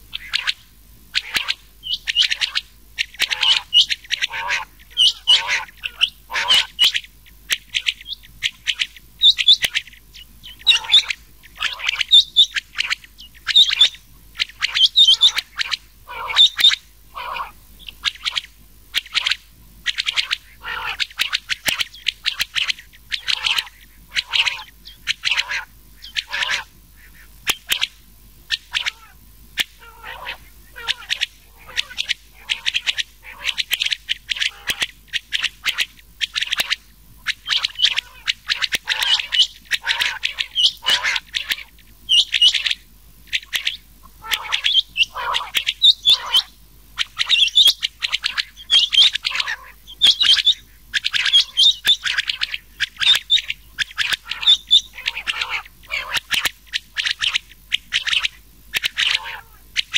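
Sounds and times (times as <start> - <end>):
quail calls: 0.0 - 59.9.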